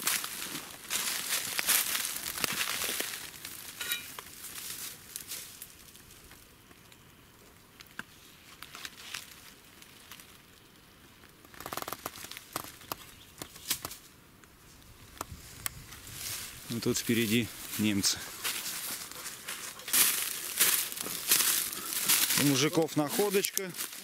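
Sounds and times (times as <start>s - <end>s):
footsteps crackling on dry leaves: 0.0s - 6.8s, 7.8s - 24.0s.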